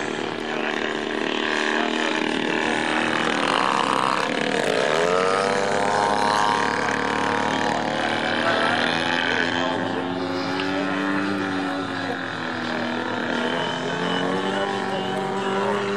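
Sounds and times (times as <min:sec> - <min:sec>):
model plane engine and propeller: 0:00.0 - 0:15.9.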